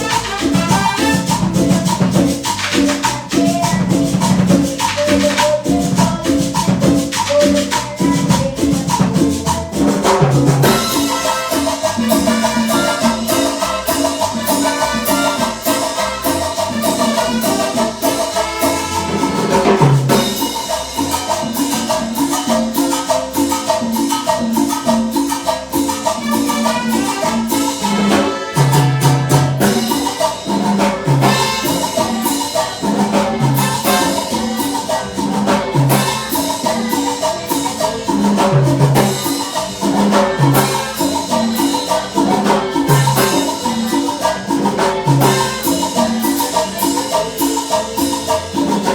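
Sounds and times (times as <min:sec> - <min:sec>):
band playing cumbia: 0:00.0 - 0:48.9.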